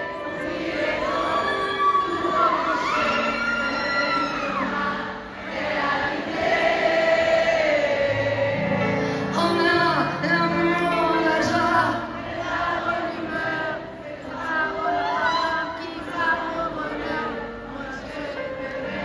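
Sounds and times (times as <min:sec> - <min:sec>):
many voices singing: 0:00.0 - 0:19.0.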